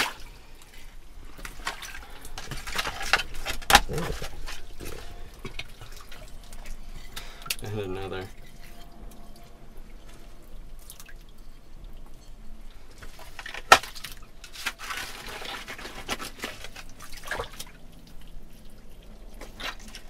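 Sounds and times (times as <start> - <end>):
water dripping and splashing: 0.0 - 20.0.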